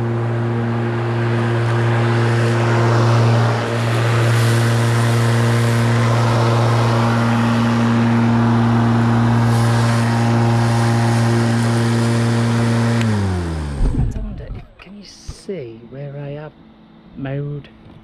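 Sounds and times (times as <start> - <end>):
electric lawnmower humming: 0.0 - 18.0.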